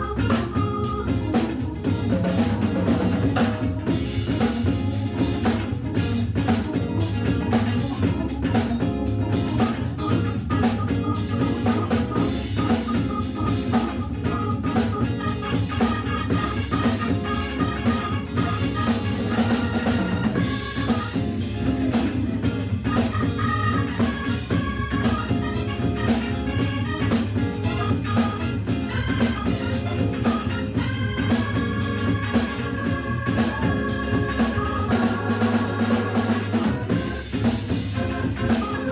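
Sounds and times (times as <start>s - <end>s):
drum kit groove: 0.0s - 38.9s
organ chords: 0.0s - 38.9s.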